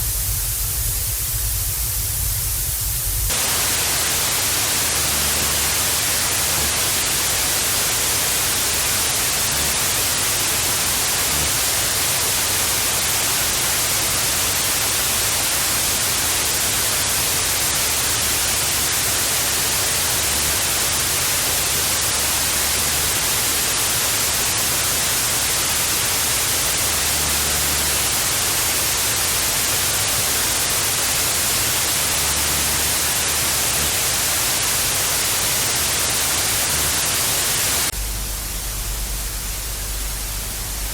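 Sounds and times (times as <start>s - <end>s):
tv static hiss: 0.0s - 40.9s.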